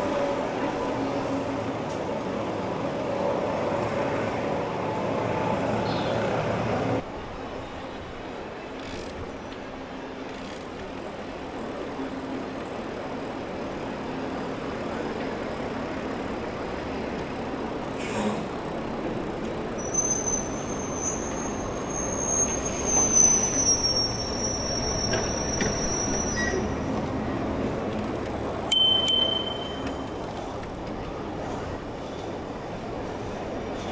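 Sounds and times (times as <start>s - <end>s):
city street traffic: 0.0s - 33.9s.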